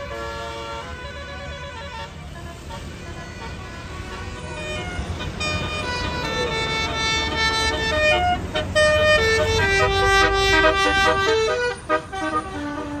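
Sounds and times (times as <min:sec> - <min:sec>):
bus engine rumble: 0:00.0 - 0:13.0
multi-tone bus horn tune: 0:00.0 - 0:13.0.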